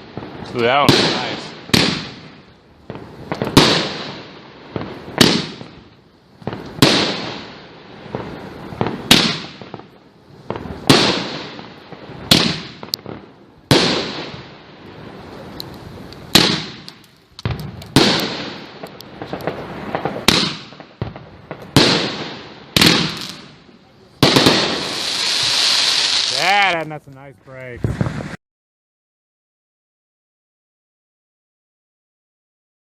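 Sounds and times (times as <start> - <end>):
firework bursts with hiss: 0.0 - 26.7, 27.8 - 28.4.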